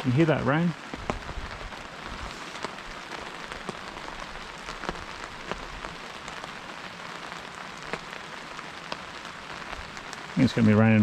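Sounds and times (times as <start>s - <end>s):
heavier raindrops ticking: 0.0s - 11.0s
steady rain falling: 0.0s - 11.0s.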